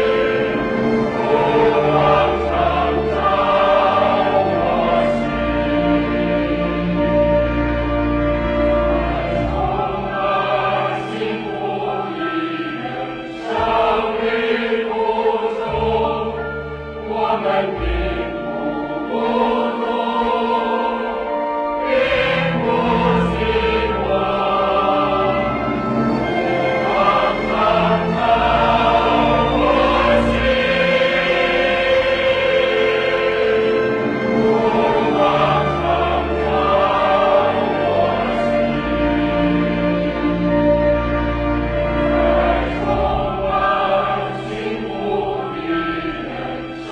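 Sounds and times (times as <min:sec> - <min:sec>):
choir singing: 0:00.0 - 0:46.9
musical accompaniment: 0:00.0 - 0:46.9.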